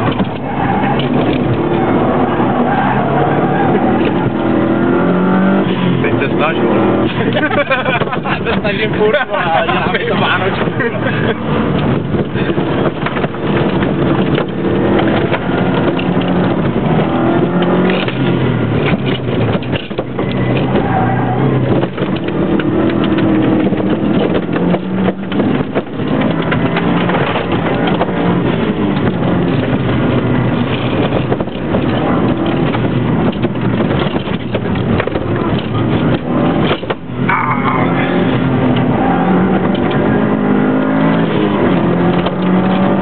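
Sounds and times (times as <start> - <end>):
car rattles and knocks: 0.0 - 43.0
racing car engine: 0.0 - 43.0.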